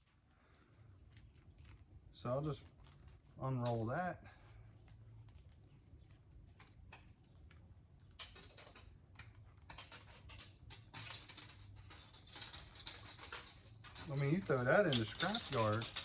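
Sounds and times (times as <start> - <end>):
wire unwinding clicks and crinkles: 0.0 - 16.0.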